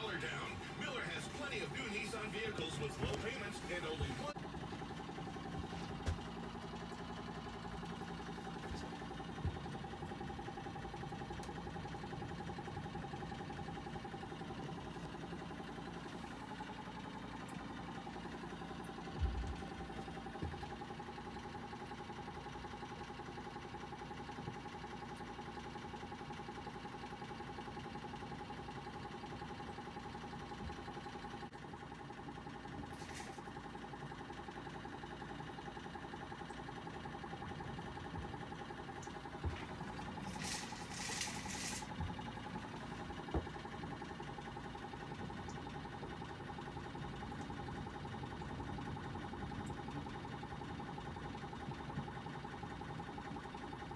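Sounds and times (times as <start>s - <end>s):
mechanical hum with whine: 0.0s - 53.9s.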